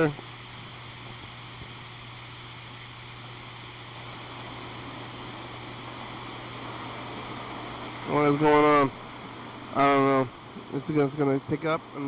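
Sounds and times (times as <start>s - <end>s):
electrical hiss: 0.0s - 12.0s.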